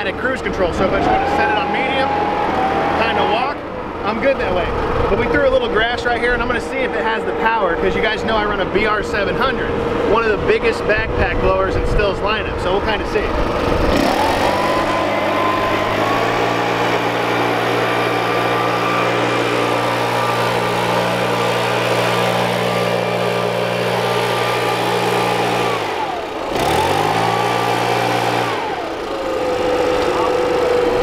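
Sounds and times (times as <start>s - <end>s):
leaf blower running: 0.0s - 31.0s.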